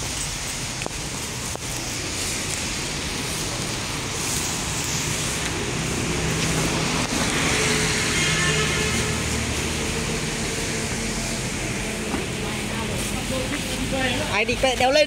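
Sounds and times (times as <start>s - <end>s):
street noise hiss: 0.0s - 15.0s.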